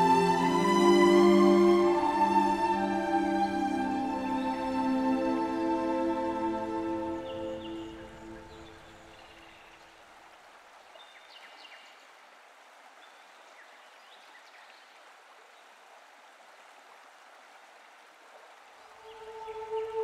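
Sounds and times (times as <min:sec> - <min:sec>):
soft outdoor hiss: 0:00.0 - 0:20.0.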